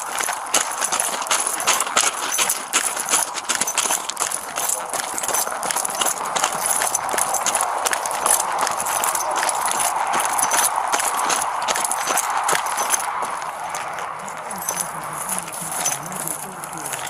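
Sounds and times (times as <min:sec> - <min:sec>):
footsteps on gravel: 0:00.0 - 0:17.0.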